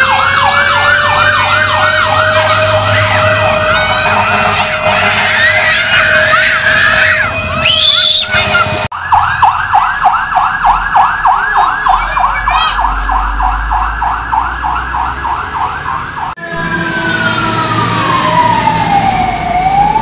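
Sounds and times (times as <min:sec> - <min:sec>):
fire truck siren: 0:00.0 - 0:20.0.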